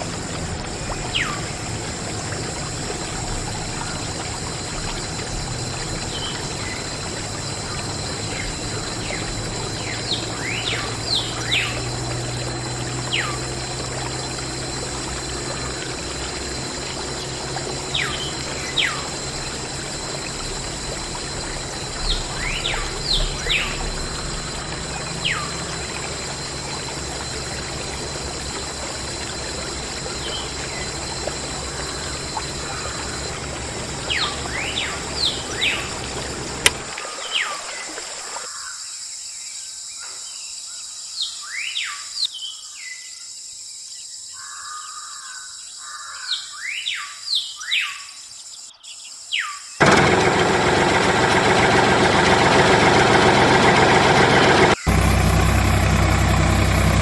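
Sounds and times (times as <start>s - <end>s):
water trickling and splashing: 0.0s - 39.2s, 49.8s - 57.0s.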